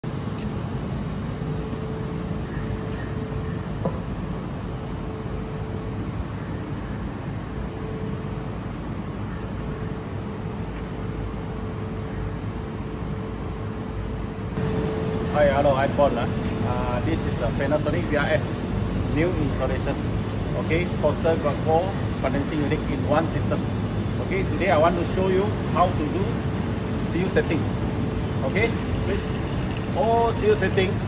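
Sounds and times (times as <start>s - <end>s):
low mechanical hum: 0.0s - 31.0s
faint steady tone: 0.9s - 31.0s.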